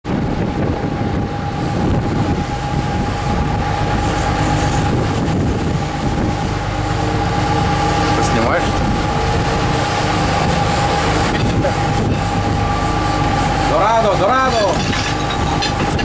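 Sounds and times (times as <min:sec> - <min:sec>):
boat engines rumbling: 0:00.0 - 0:16.0
rush of the wake: 0:00.0 - 0:16.0
wind: 0:00.0 - 0:16.0.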